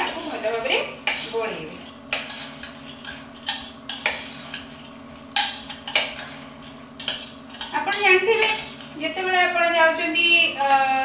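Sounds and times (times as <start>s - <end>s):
metal spoon scraping steel bowl: 0.0s - 9.2s, 10.4s - 11.0s.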